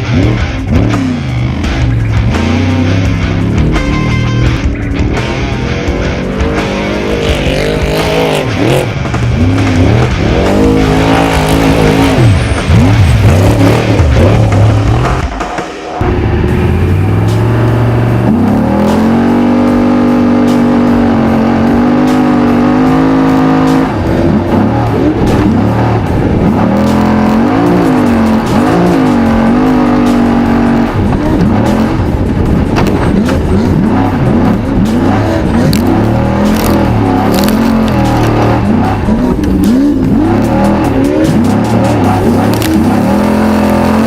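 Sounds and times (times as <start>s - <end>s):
race engine revving hard: 5.2s - 44.0s.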